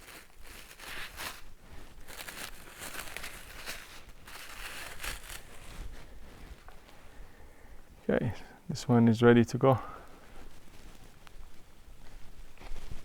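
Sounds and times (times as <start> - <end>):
crinkly material rustling: 0.0 - 7.1, 9.6 - 13.0.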